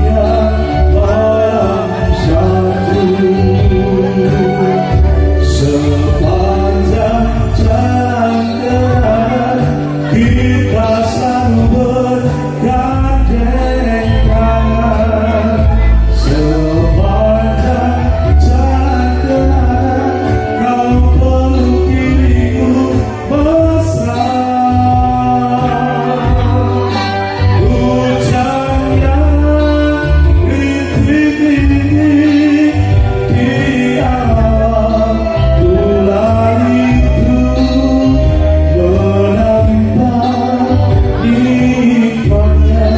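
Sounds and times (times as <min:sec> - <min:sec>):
heavy rhythmic bass: 0:00.0 - 0:42.9
live band with keyboards and guitar: 0:00.0 - 0:42.9
man singing into a microphone: 0:00.0 - 0:42.9.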